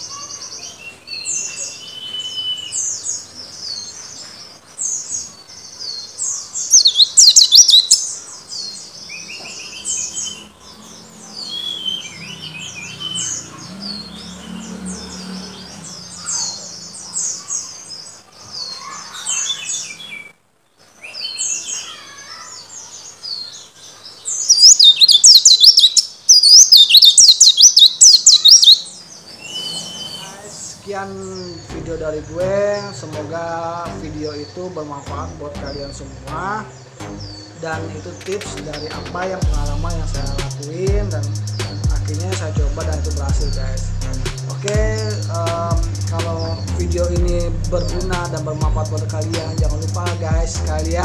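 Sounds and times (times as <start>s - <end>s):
bird singing and twittering: 0.0s - 20.4s, 21.0s - 51.0s.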